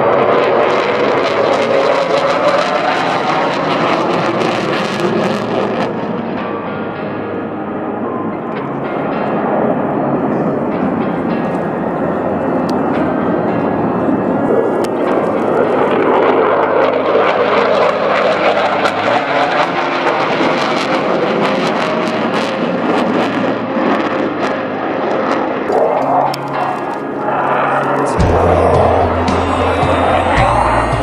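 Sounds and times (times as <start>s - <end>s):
fighter jet flying over: 0.0s - 31.0s.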